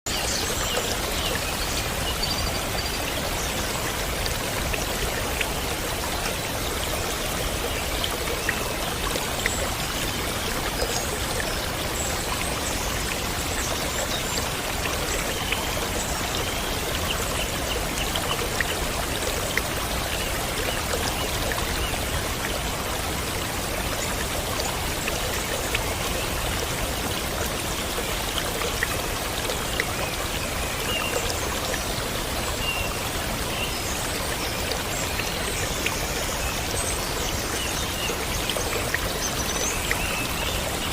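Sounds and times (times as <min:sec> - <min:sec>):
running water rushing: 0:00.1 - 0:40.9.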